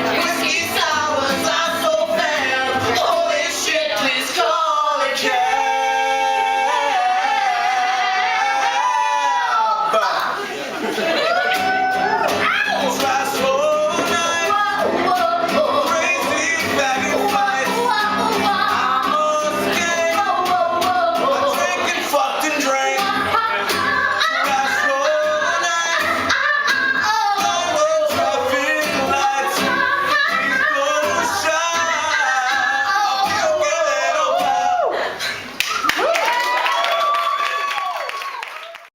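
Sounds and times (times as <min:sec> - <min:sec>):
person singing: 0:00.0 - 0:10.2, 0:11.2 - 0:35.2.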